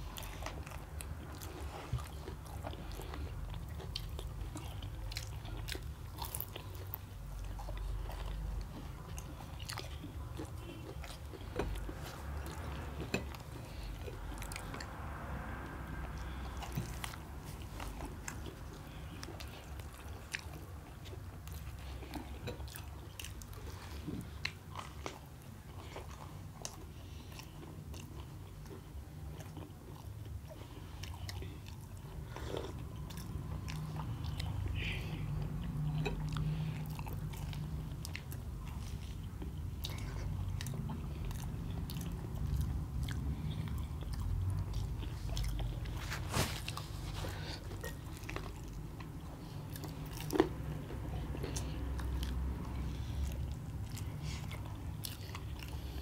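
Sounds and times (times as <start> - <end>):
steady low hum: 0.0 - 56.0
wet chewing: 0.0 - 56.0.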